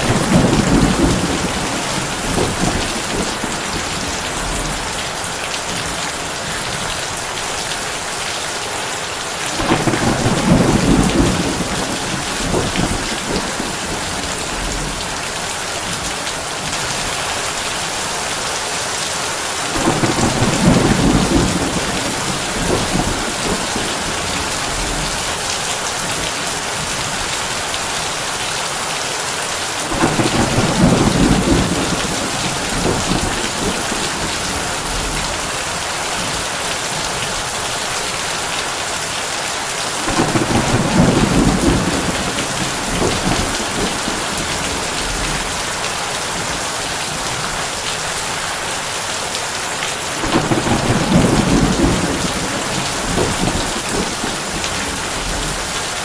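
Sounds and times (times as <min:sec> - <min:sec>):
low thunder rumbling: 0:00.0 - 0:07.3, 0:09.6 - 0:18.3, 0:19.6 - 0:27.8, 0:29.8 - 0:37.6, 0:40.0 - 0:47.5, 0:50.2 - 0:56.0
heavy rain on a tin roof: 0:00.0 - 0:56.0.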